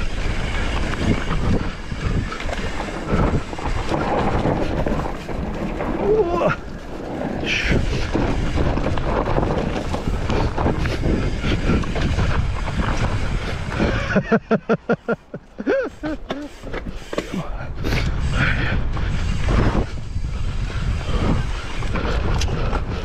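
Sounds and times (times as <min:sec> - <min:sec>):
wind buffeting microphone: 0:00.0 - 0:14.9, 0:15.6 - 0:23.0
bike tyres rumbling over dirt: 0:00.0 - 0:23.0.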